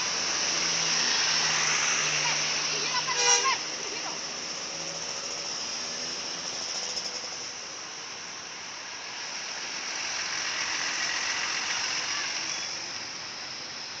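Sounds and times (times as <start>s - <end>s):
vehicle passing by: 0.0s - 7.6s, 9.0s - 13.1s.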